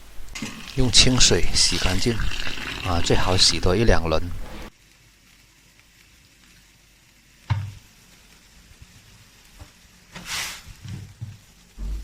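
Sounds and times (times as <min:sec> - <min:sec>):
wok sizzling: 0:00.0 - 0:12.0.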